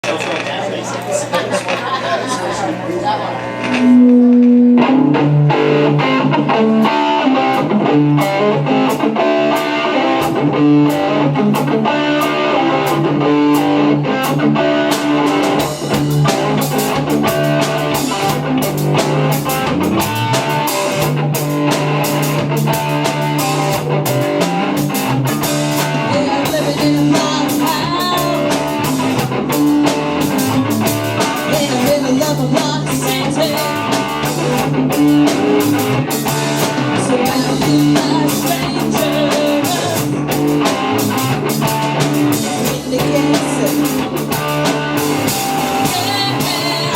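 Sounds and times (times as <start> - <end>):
rock band playing live: 1.2 - 46.9.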